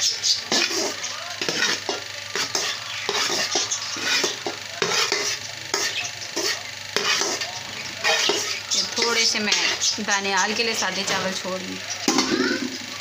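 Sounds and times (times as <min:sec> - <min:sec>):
utensil scraping a steel bowl: 0:00.1 - 0:11.4.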